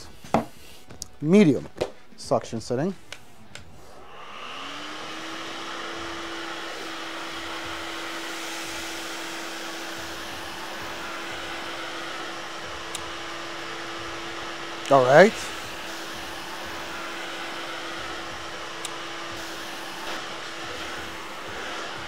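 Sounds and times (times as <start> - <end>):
vacuum on carpet air rush: 3.4 - 22.0
stick vacuum motor whine: 3.9 - 22.0.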